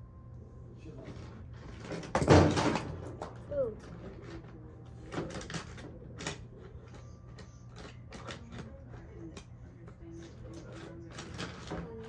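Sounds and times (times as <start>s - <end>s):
plastic toys clicking and knocking: 2.1s - 12.0s.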